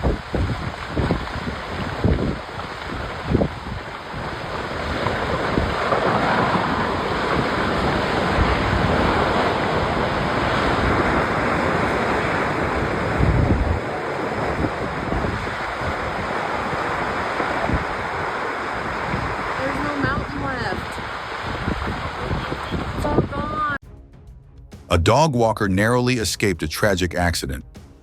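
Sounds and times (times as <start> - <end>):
rockslide rumble: 0.0 - 23.8
wind buffeting microphone: 0.0 - 23.8.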